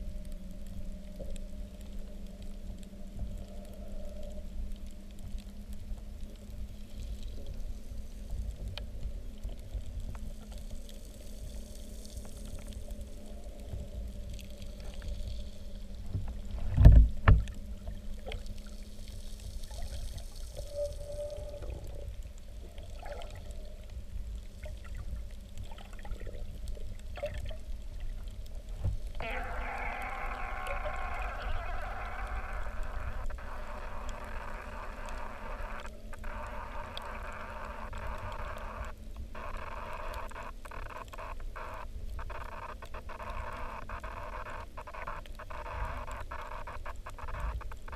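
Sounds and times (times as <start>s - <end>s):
constant low drone: 0.0s - 47.9s
underwater low rumble: 0.0s - 47.9s.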